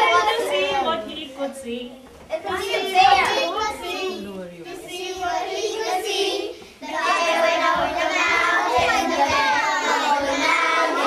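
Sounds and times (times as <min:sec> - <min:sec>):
young children singing: 0:00.0 - 0:01.4, 0:02.3 - 0:11.0.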